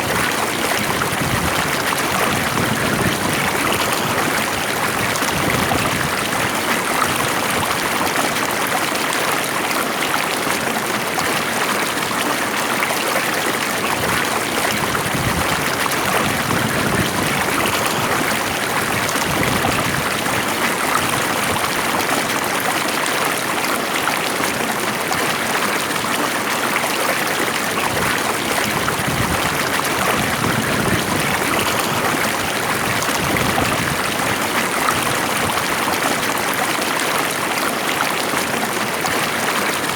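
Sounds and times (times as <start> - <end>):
stream of flowing water: 0.0 - 39.9.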